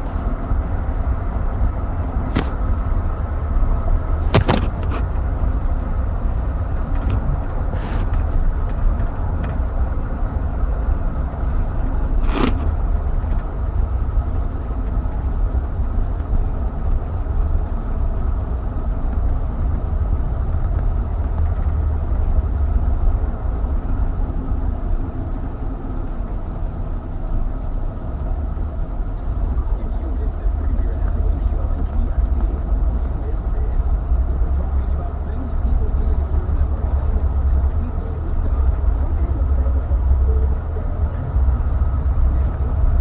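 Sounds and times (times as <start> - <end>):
road and engine rumble in car: 0.0 - 43.0.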